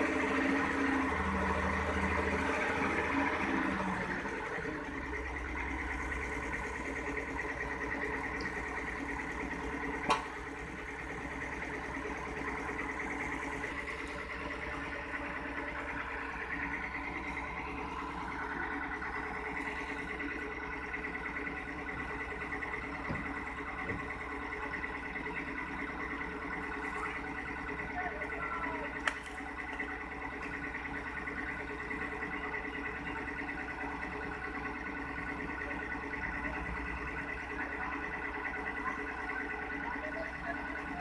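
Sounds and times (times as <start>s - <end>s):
excavator diesel engine whining: 0.0s - 41.0s.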